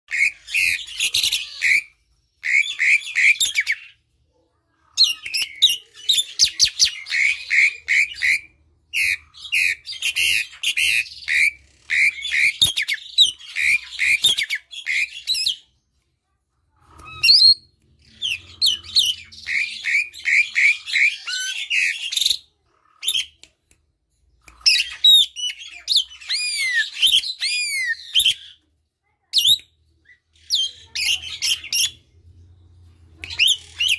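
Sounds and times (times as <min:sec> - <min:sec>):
starling chattering song: 0:00.1 - 0:04.0, 0:04.6 - 0:15.8, 0:16.6 - 0:33.9.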